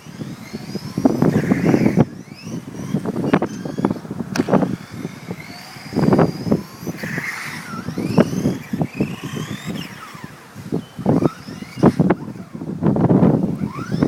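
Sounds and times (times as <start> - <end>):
electric rc car motor whining: 0.0 - 14.0.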